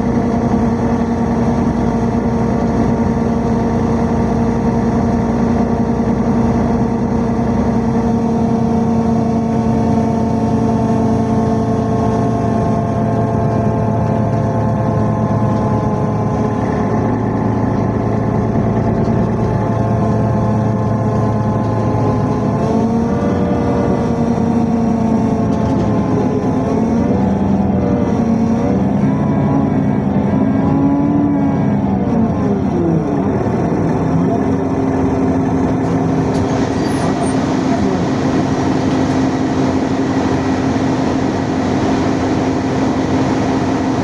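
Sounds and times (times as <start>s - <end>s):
electric traction drive whine: 0.0s - 44.0s
metro train rumble: 0.0s - 44.0s.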